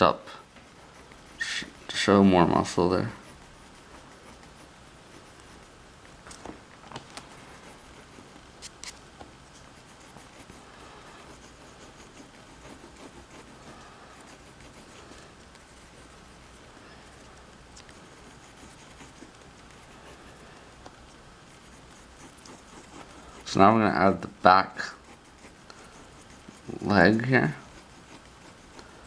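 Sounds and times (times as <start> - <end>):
pencil scratching on paper: 0.0 - 6.2, 7.2 - 8.8, 9.6 - 20.4, 21.4 - 29.0.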